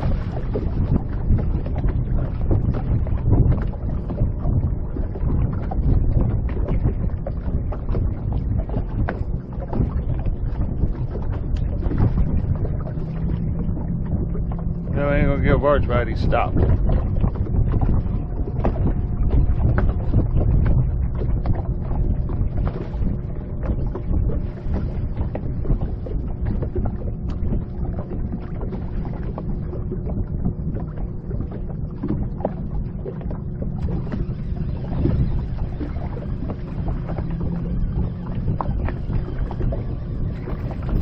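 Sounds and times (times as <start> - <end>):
water lapping against boat hull: 0.0 - 41.0
wind buffeting microphone: 0.0 - 41.0.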